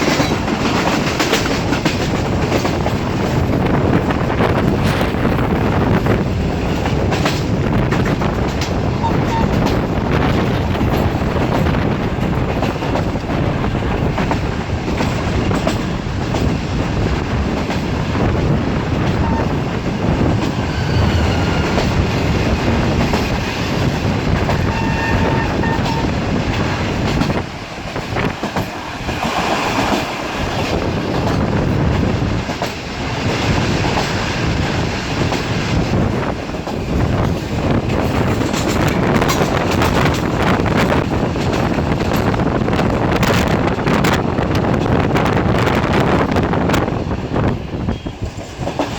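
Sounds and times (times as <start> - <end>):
rail joints clickety-clack: 0.0 - 48.9
train wheels rumbling on rails: 0.0 - 48.9.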